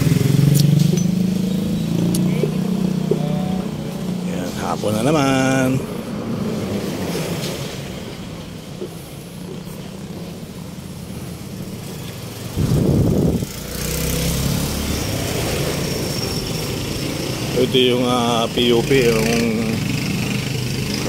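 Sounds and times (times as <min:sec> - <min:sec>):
engine hum: 0:00.0 - 0:21.0
traffic rumble: 0:00.0 - 0:21.0.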